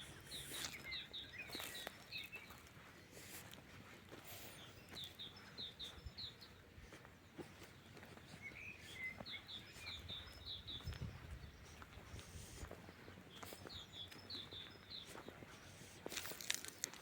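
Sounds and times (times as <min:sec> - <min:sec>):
songbirds singing faintly: 0:00.0 - 0:17.0.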